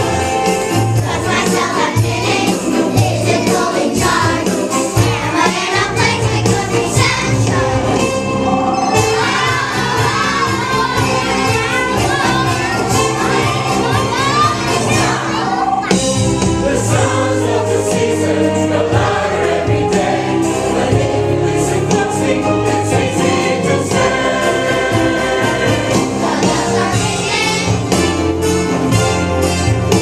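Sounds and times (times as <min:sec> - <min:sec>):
choir singing gospel song: 0:00.0 - 0:28.6
instrumental accompaniment with beat: 0:00.0 - 0:30.0.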